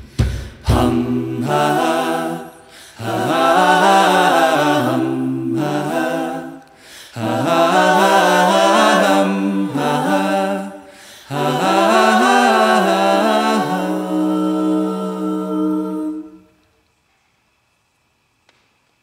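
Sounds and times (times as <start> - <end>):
group of voices singing in harmony: 0.4 - 16.6.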